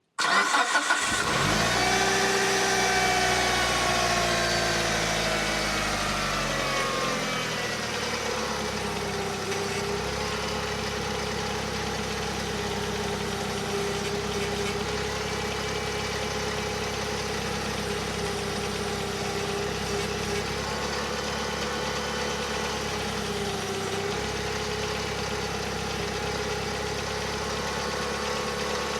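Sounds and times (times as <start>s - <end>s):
car engine idling: 0.2s - 28.9s.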